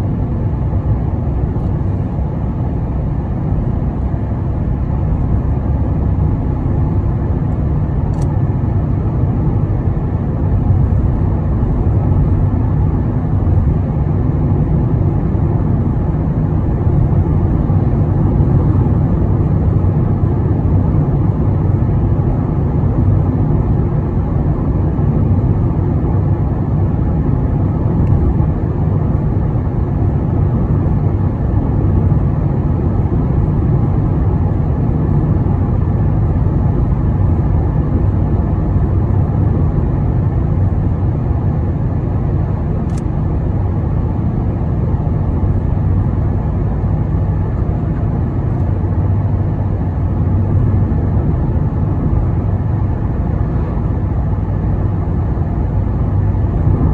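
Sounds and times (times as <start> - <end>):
car tyre and engine rumble: 0.0 - 56.9.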